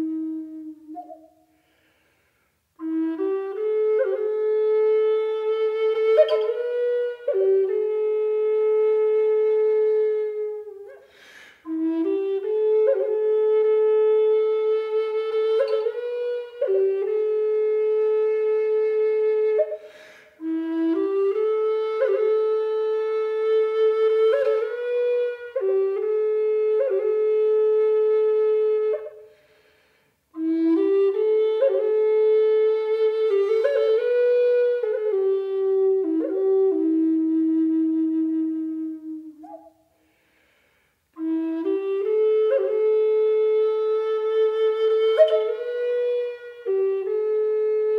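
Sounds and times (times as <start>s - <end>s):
solo flute melody: 0.0s - 40.5s, 41.1s - 47.9s.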